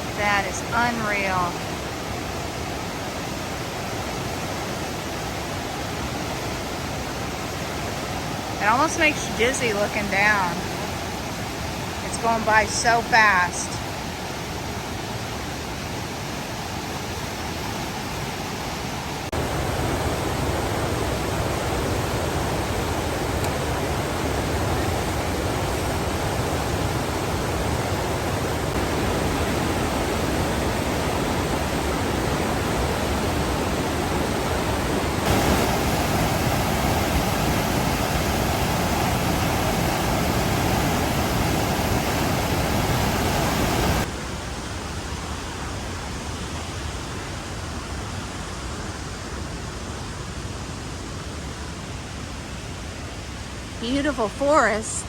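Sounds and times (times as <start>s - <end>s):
river rushing: 0.0s - 54.8s.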